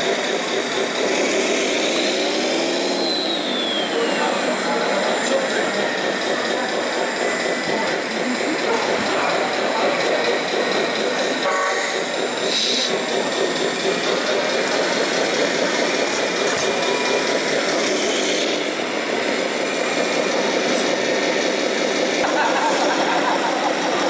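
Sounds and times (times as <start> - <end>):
excavator pump whirring: 0.0 - 24.0.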